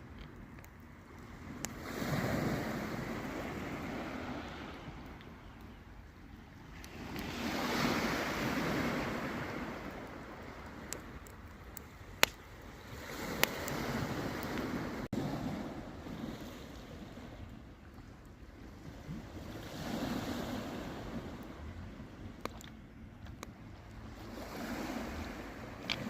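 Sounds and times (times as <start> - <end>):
low wind rumble: 0.0 - 26.0
sea waves washing onto shore: 1.0 - 5.5, 6.7 - 17.5, 18.6 - 22.7, 23.7 - 26.0.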